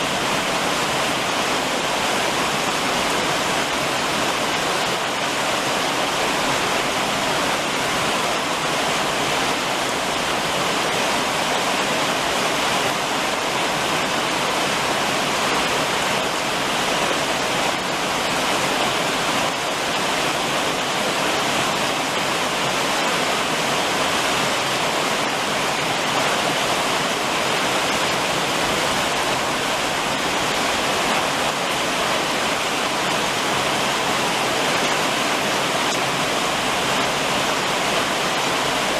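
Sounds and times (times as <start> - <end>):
rain pattering on a roof: 0.0 - 38.9.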